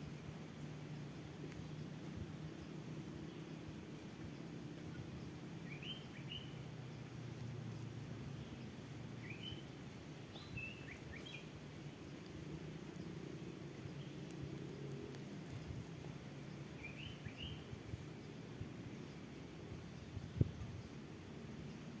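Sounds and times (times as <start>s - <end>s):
low outdoor rumble: 0.0s - 22.0s
small birds chirping: 0.0s - 22.0s.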